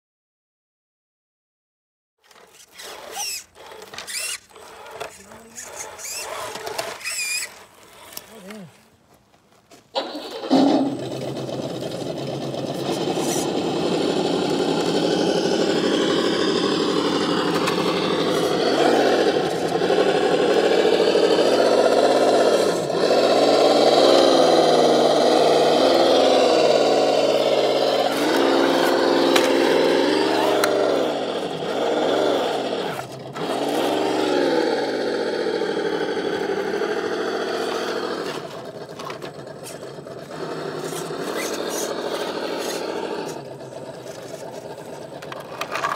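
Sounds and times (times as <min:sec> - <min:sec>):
rc crawler motors whining: 0:02.2 - 0:09.1, 0:09.9 - 0:45.9.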